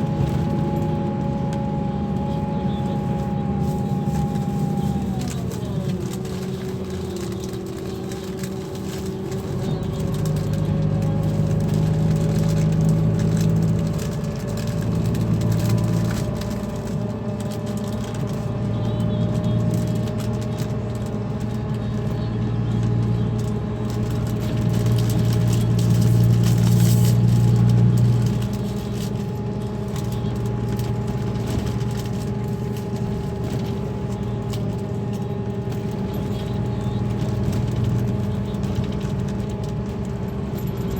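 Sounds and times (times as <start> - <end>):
coach diesel engine running: 0.0 - 40.9.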